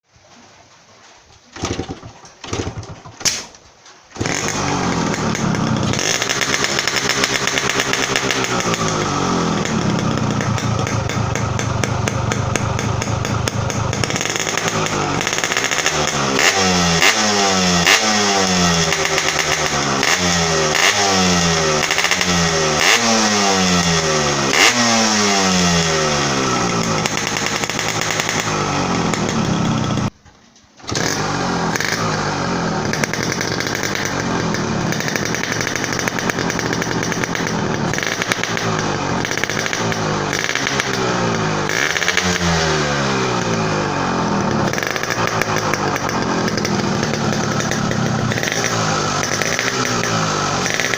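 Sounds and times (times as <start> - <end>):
two-stroke motorcycle revving: 1.6 - 3.5, 4.1 - 30.2, 30.8 - 50.9.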